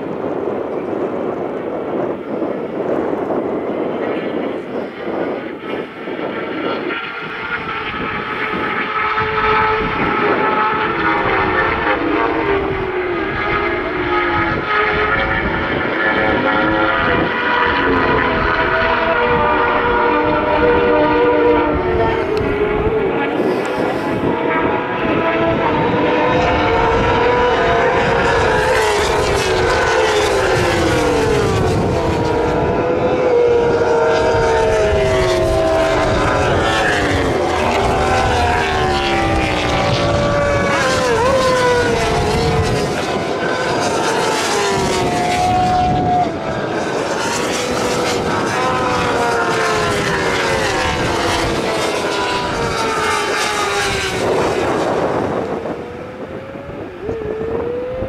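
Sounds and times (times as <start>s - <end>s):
racing motorcycles passing: 5.4s - 58.0s.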